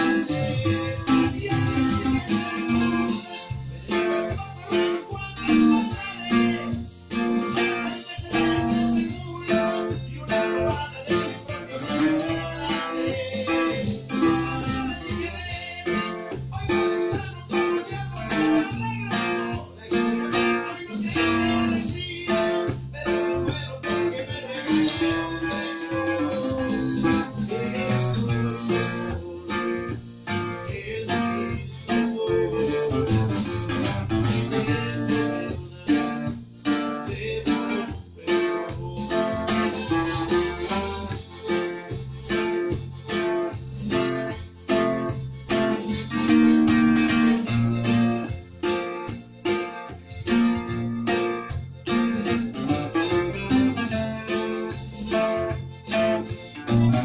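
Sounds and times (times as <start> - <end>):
bass guitar strummed and picked: 0.0 - 57.0.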